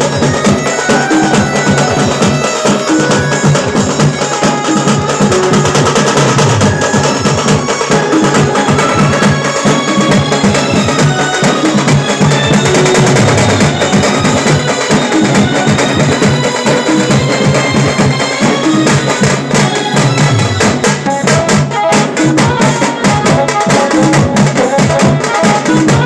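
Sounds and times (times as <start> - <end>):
fast stick strokes on drums: 0.0 - 26.0.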